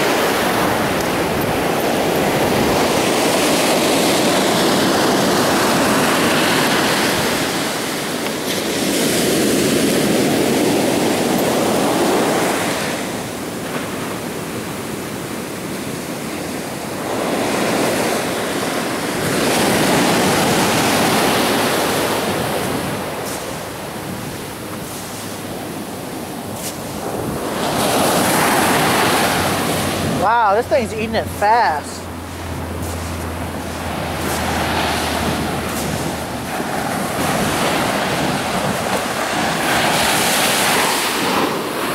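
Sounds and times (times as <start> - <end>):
ocean surf washing: 0.0 - 41.9
wind buffeting microphone: 0.0 - 41.9.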